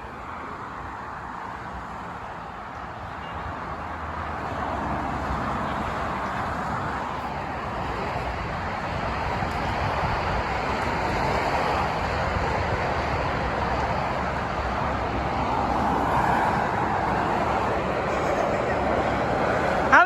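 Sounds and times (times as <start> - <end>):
road traffic rushing: 0.0 - 20.0.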